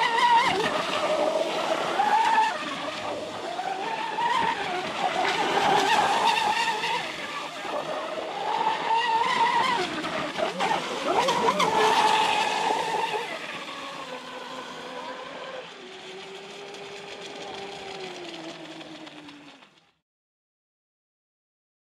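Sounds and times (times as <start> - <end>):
model boat motor whining: 0.0 - 20.0.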